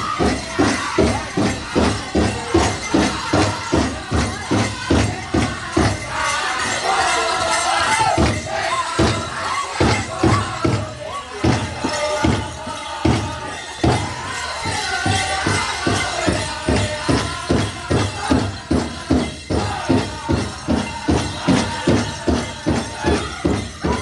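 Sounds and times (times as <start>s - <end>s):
large drum beating: 0.0s - 6.1s, 8.1s - 24.0s
singers high wavering song: 0.0s - 24.0s.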